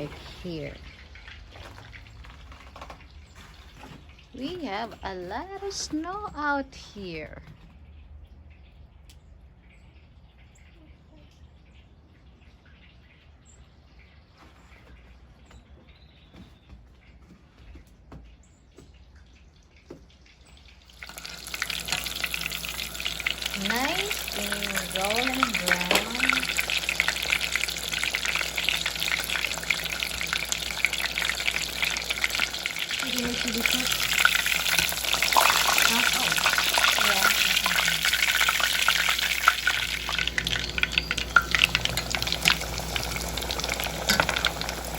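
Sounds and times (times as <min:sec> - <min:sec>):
low outdoor rumble: 0:00.0 - 0:14.2, 0:20.8 - 0:44.9
chicken frying in hot oil: 0:00.0 - 0:15.4, 0:18.6 - 0:44.9.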